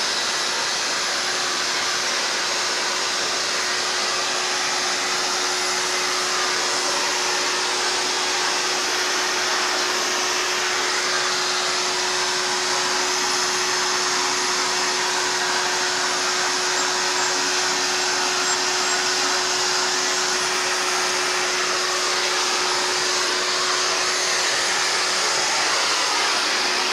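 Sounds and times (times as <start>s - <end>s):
vacuum cleaner running: 0.0s - 26.9s.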